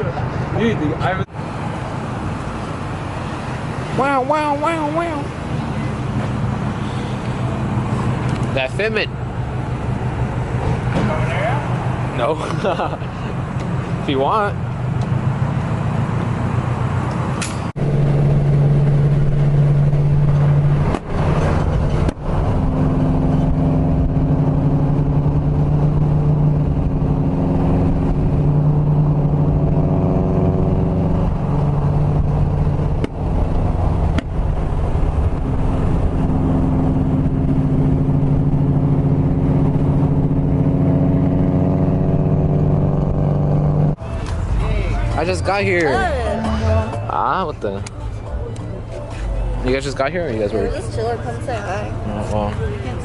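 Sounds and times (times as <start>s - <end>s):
car engine droning: 0.0s - 53.0s.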